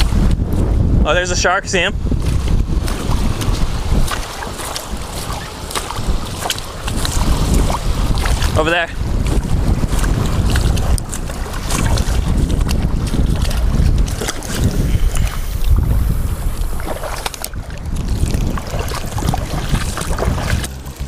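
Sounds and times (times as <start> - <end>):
wind buffeting microphone: 0.0 - 21.0
waves washing on rocky shore: 2.0 - 21.0.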